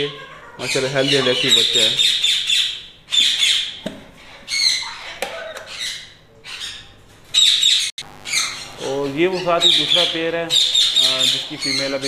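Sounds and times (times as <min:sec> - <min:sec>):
parrots squawking: 0:00.0 - 0:12.0.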